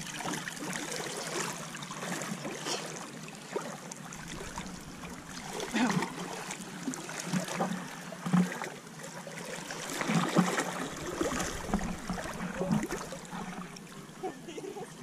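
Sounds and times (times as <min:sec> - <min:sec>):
water streaming from mesh bag: 0:00.0 - 0:14.0
seawater sloshing around legs: 0:00.0 - 0:15.0.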